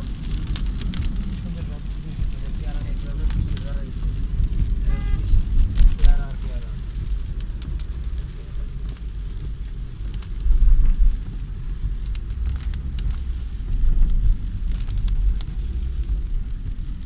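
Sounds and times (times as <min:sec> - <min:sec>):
rain tapping on car: 0:00.0 - 0:17.0
road and engine rumble: 0:00.0 - 0:17.0.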